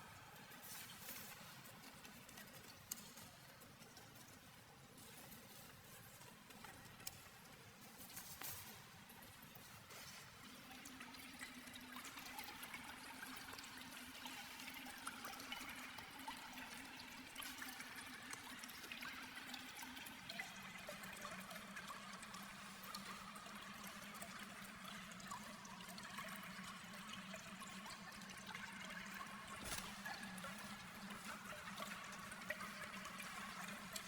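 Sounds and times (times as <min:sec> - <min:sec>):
water trickling: 0:00.0 - 0:34.0.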